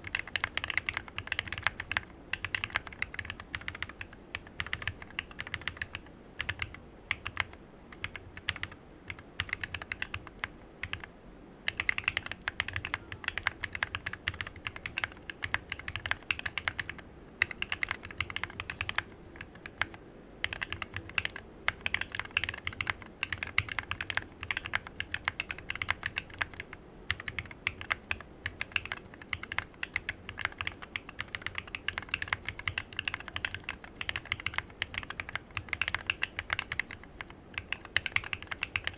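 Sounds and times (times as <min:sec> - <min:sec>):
mechanical keyboard keystroke clacks: 0:00.0 - 0:11.1, 0:11.7 - 0:38.9.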